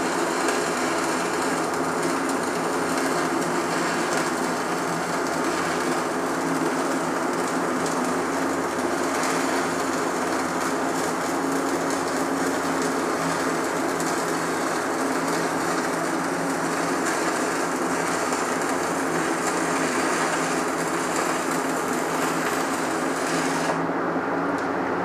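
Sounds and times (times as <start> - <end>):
welding arc crackling: 0.0 - 23.9.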